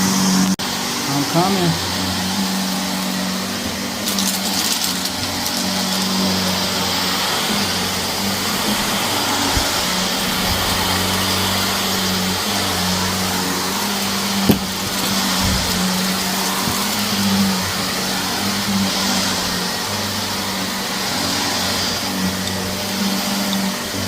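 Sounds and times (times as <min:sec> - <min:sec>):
vacuum cleaner motor humming: 0:00.0 - 0:24.0.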